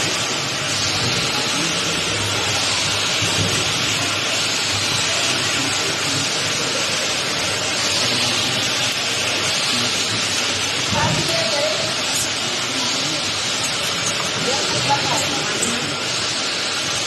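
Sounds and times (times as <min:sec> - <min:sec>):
filling machine hiss: 0:00.0 - 0:17.0
low machine hum: 0:00.0 - 0:17.0.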